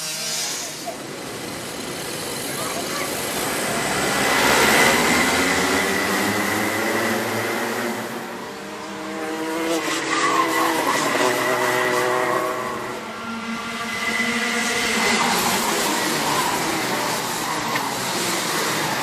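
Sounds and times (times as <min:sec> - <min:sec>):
kart engine pitch rising and falling: 0:00.0 - 0:19.0
racing karts going by: 0:00.0 - 0:19.0.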